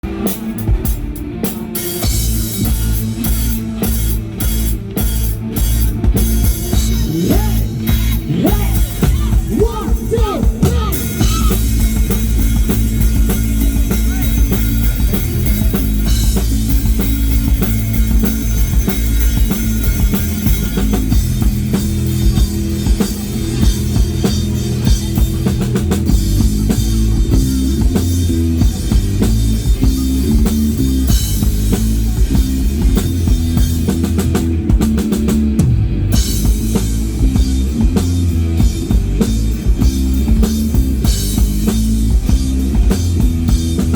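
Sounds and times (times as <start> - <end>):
drum kit playing: 0.0 - 43.9
electric guitar: 0.0 - 43.9
steady kick drum beat: 0.0 - 43.9.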